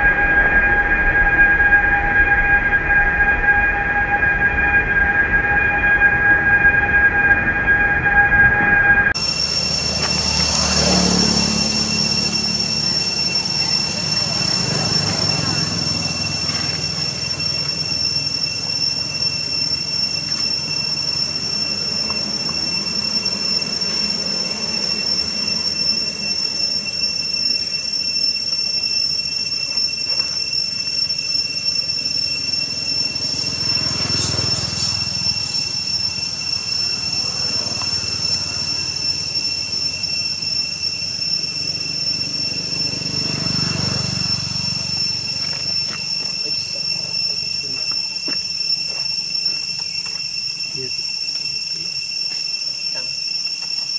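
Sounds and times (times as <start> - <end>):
high-pitched insect drone: 9.0 - 53.9.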